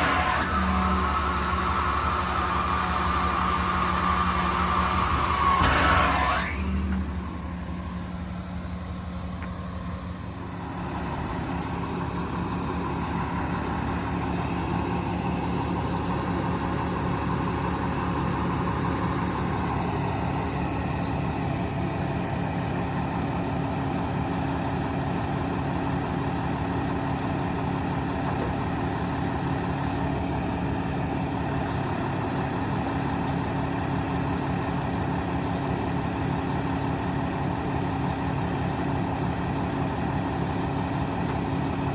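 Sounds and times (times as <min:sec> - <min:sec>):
diesel truck engine idling: 0:06.4 - 0:41.9.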